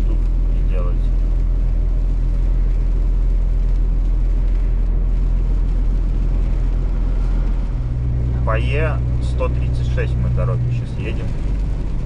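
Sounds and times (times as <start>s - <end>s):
truck engine and road drone: 0.0s - 12.0s.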